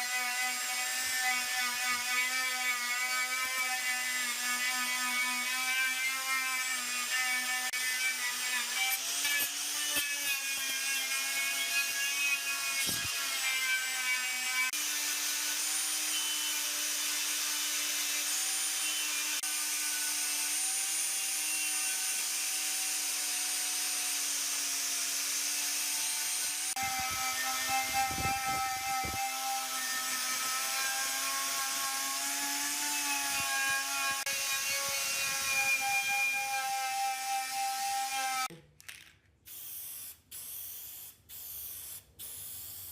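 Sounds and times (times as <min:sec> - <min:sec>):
handheld power tool motor running: 0:00.0 - 0:38.5, 0:39.5 - 0:42.9.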